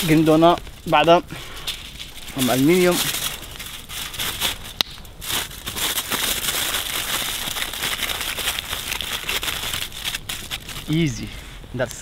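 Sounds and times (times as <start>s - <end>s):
aluminium foil crinkling: 0.0s - 11.2s.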